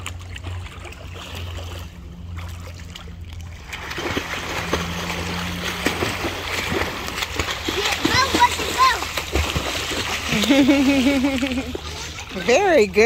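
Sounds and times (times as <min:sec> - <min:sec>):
steady low hum: 0:00.0 - 0:13.0
swimmer splashing water: 0:00.0 - 0:13.0.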